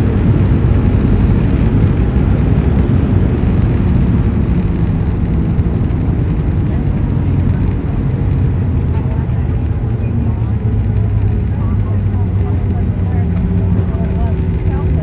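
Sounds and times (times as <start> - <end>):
airplane landing rumble: 0.0 - 15.0.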